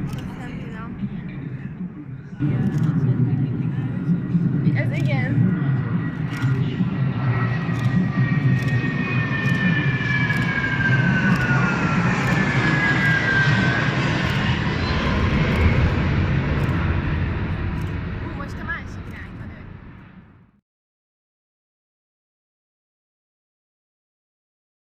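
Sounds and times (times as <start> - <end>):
jet plane flying overhead: 0.0 - 20.6.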